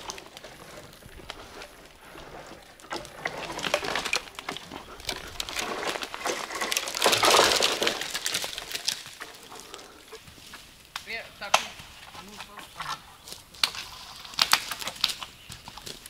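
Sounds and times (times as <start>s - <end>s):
dry wood cracking and snapping: 0.0s - 16.0s.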